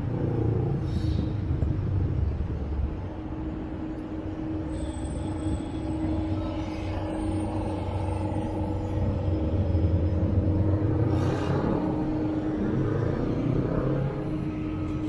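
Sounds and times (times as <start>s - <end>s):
traffic engine rumble: 0.0s - 15.0s
faint high whines: 2.8s - 15.0s.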